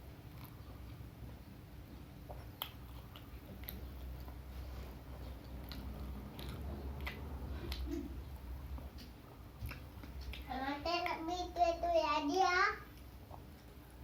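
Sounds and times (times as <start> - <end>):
person chewing crunchy food: 0.0 - 11.2, 12.9 - 14.0
steady low hum: 0.0 - 14.0.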